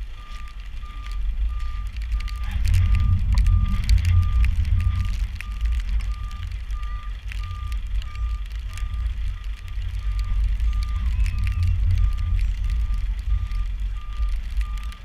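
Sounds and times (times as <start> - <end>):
rain: 0.0 - 15.0
reversing alarm beeping: 0.0 - 15.0
wind rumble on microphone: 0.0 - 15.0.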